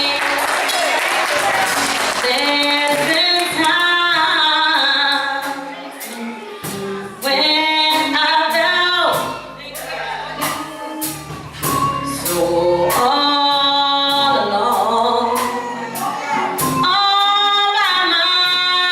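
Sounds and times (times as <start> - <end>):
gospel choir singing: 0.0 - 18.9
instrumental accompaniment: 0.0 - 18.9.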